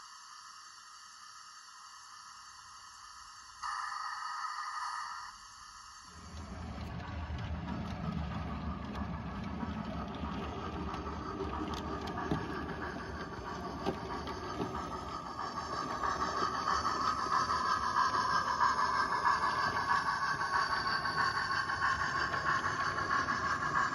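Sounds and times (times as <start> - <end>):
model train whirring and rumbling: 0.0 - 23.9.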